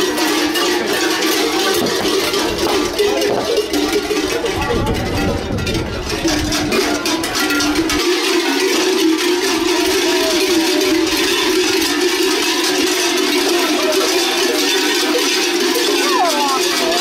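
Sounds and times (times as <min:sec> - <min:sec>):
folk music: 0:00.0 - 0:17.0.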